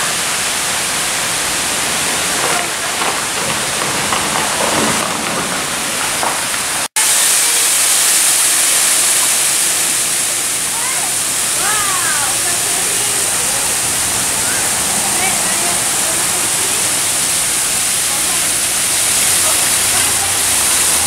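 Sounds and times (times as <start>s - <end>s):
waterfall splashing onto rock: 0.0s - 21.0s.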